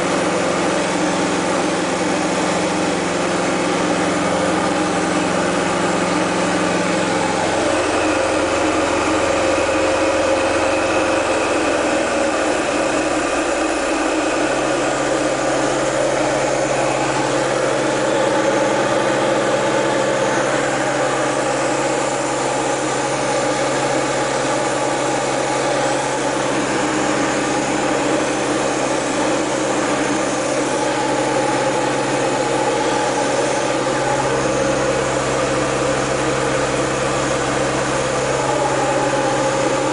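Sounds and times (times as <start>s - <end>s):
aircraft piston engine drone: 0.0s - 39.9s
air rush: 0.8s - 39.9s.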